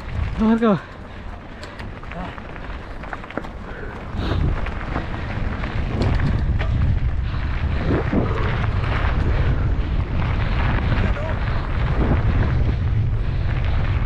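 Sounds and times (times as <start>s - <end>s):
bike clicks and rattles: 0.0s - 14.0s
wind buffeting microphone: 0.0s - 14.0s.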